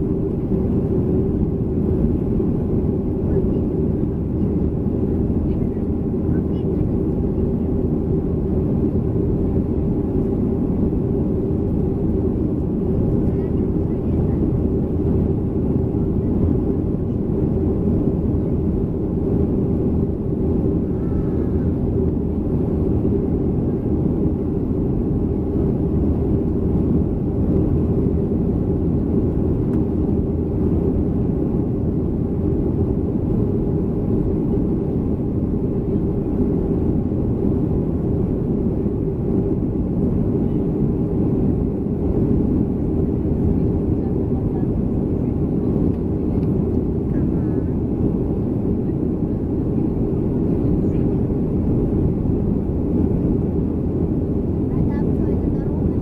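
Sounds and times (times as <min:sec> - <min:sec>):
low rumble of jet engines and airflow: 0:00.0 - 0:56.0.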